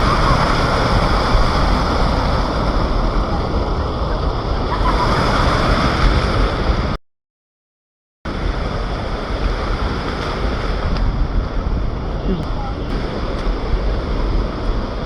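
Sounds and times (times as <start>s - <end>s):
wind rumbling on microphone: 0.0s - 7.0s, 8.3s - 15.0s.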